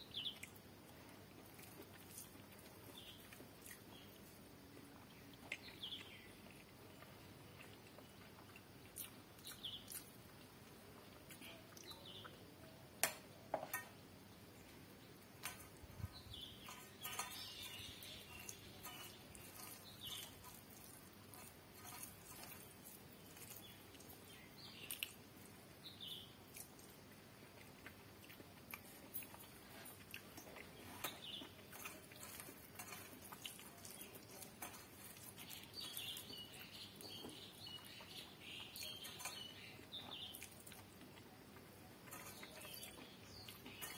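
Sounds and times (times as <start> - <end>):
soft chewing: 0.0 - 43.9.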